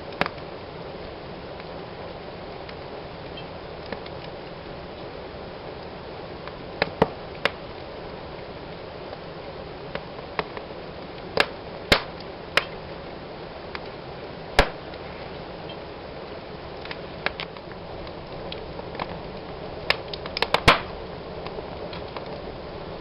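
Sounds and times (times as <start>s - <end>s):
fire crackles and pops: 0.0s - 23.0s
wood fire hissing: 0.0s - 23.0s.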